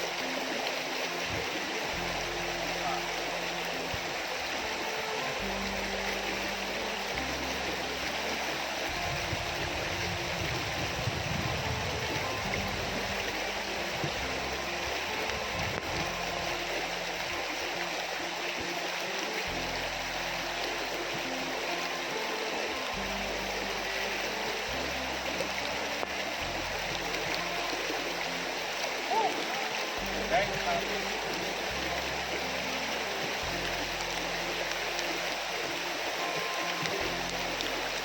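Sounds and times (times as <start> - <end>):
background music with bass: 0.0 - 38.0
river water rushing: 0.0 - 38.0.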